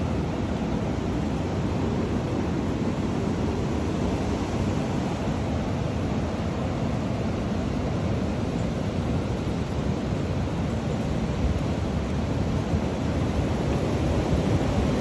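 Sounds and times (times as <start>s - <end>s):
strong wind blowing through trees: 0.0s - 15.0s
wind buffeting microphone: 0.0s - 15.0s.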